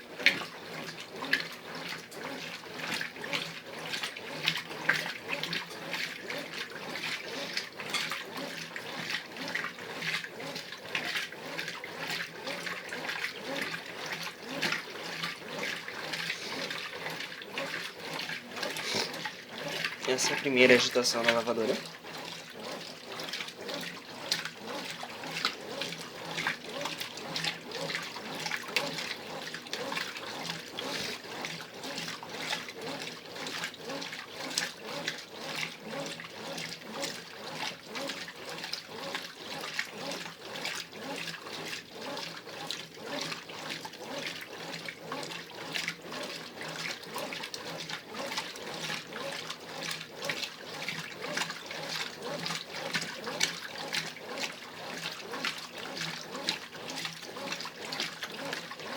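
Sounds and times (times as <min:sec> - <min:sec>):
washing machine water sloshing: 0:00.0 - 0:58.9.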